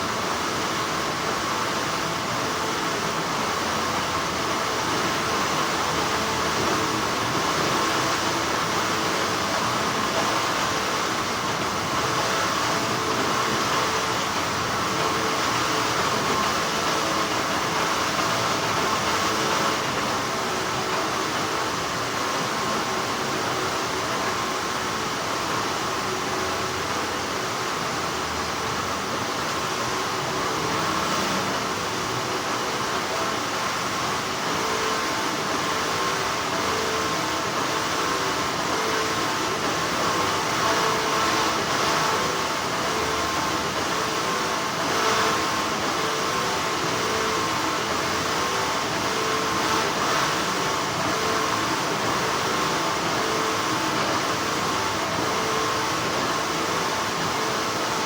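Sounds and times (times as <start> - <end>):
factory machinery hum: 0.0 - 58.0.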